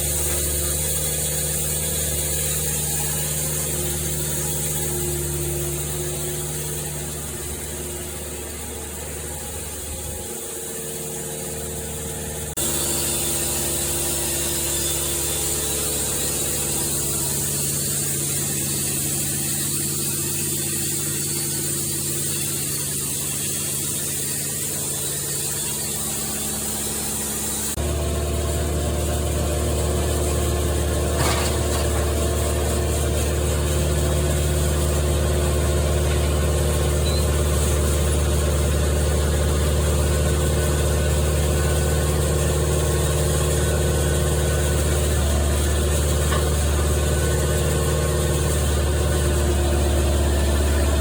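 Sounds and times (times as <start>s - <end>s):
sawmill machinery running: 0.0s - 51.0s.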